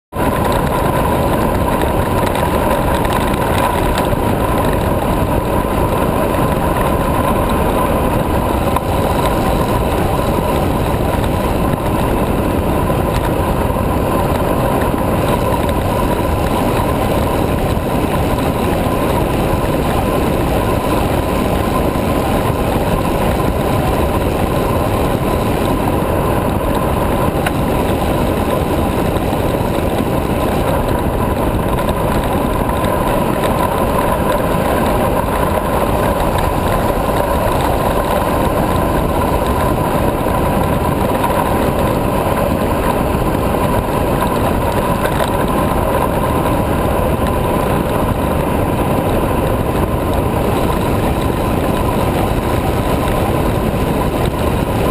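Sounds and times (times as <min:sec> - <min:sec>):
wind buffeting microphone: 0:00.1 - 0:54.9
bicycle tyre noise: 0:00.2 - 0:54.9.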